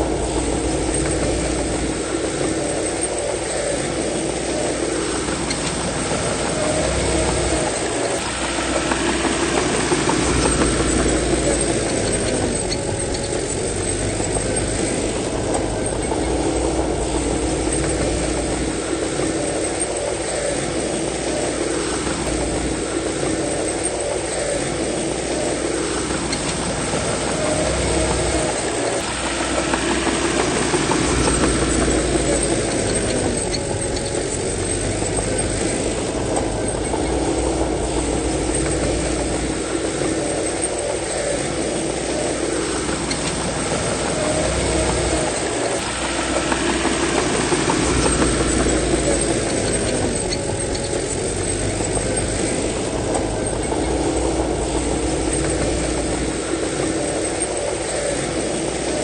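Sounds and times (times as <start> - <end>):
bulldozer diesel engine: 0.0 - 59.0.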